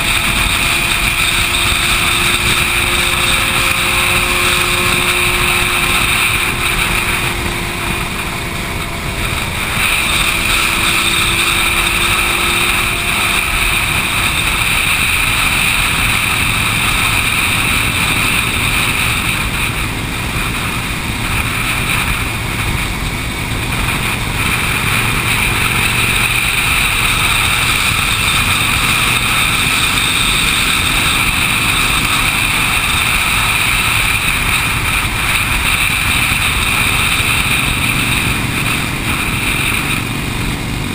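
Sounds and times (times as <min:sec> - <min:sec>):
motorcycle engines droning: 0:00.0 - 0:40.9
wind and road rush: 0:00.0 - 0:40.9.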